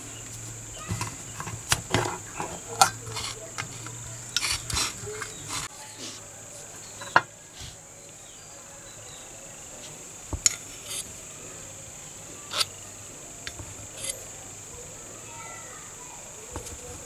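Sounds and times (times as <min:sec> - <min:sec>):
faint high-pitched hiss: 0:00.0 - 0:17.0.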